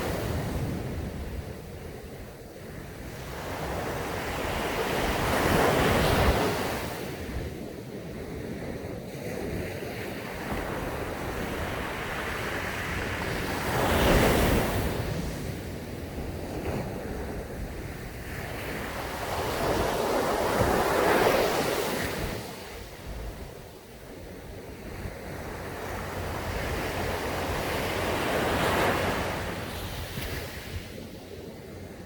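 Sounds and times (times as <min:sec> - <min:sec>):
ocean waves breaking on beach: 0:00.0 - 0:32.0
wind on microphone: 0:00.0 - 0:32.0.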